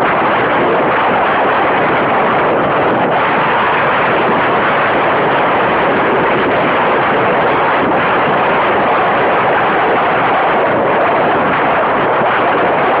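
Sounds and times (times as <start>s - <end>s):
wind blowing over microphone: 0.0s - 13.0s.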